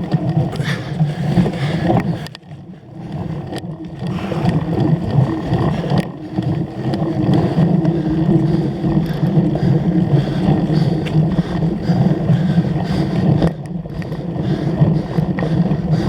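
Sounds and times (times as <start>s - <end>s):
wind buffeting the microphone: 3.1s - 16.0s.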